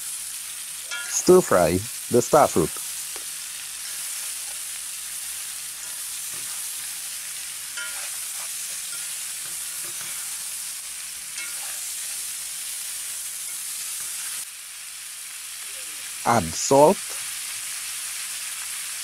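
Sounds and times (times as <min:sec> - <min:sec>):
fruit sizzling in hot oil: 0:00.0 - 0:19.0.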